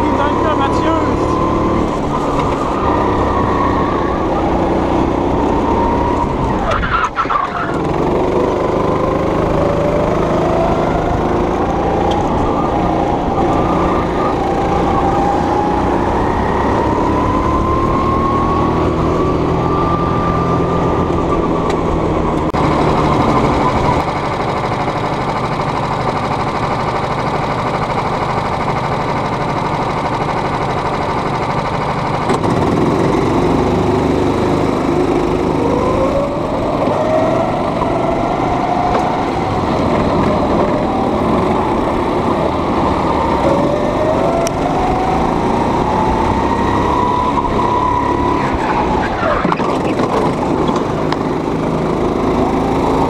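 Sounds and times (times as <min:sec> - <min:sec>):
go-kart engine revving: 0:00.0 - 0:53.0.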